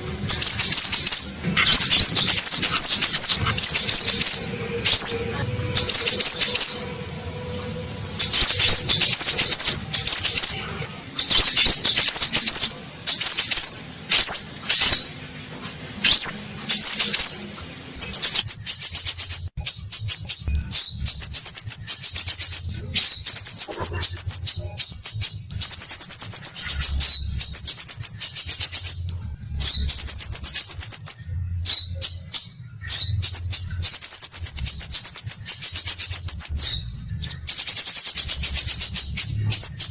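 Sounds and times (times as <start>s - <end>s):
bird singing whistles and trills: 0.0s - 7.1s, 8.2s - 15.2s, 16.0s - 39.9s.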